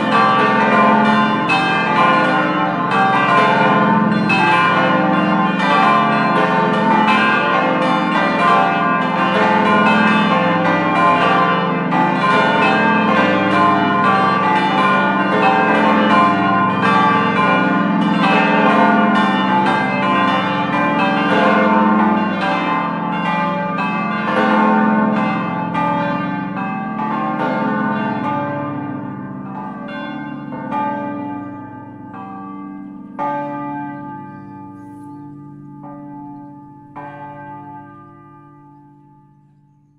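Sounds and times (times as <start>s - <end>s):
large church bells pealing: 0.0s - 39.9s.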